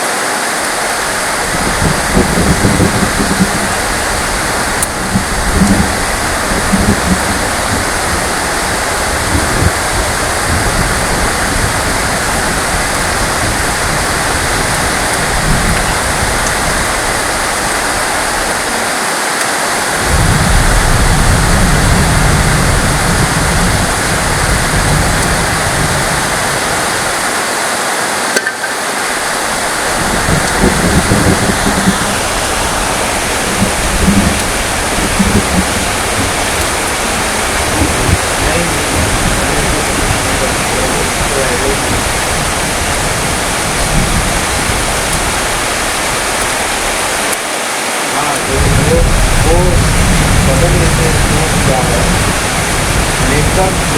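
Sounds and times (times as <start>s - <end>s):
heavy rain falling: 0.0s - 53.9s
low rumble: 1.0s - 18.7s, 20.0s - 27.1s, 29.2s - 47.0s, 48.4s - 53.9s.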